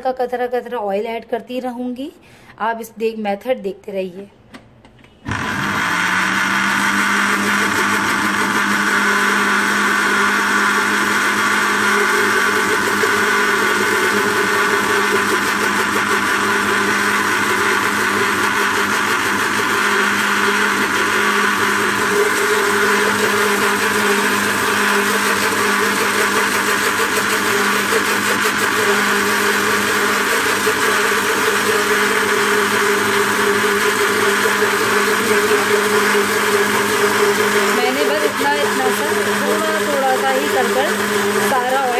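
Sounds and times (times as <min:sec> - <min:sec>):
blender motor running: 0:05.2 - 0:41.9.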